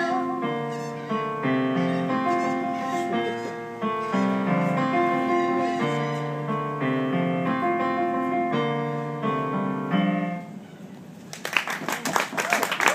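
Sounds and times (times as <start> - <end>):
digital piano chords and melody: 0.0 - 10.6.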